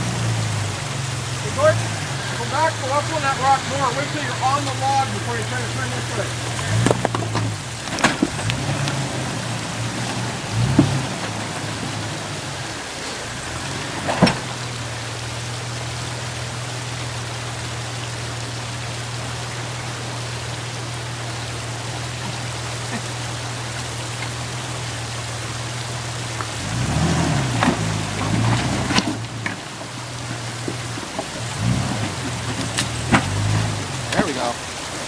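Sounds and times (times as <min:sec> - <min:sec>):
car engine running: 0:00.0 - 0:35.0
constant hiss: 0:00.0 - 0:35.0.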